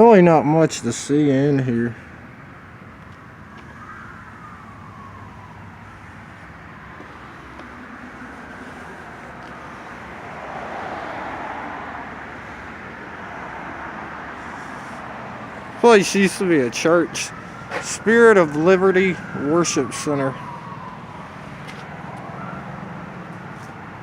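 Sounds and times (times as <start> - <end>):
road traffic noise: 0.0 - 24.0
car passing: 0.7 - 24.0.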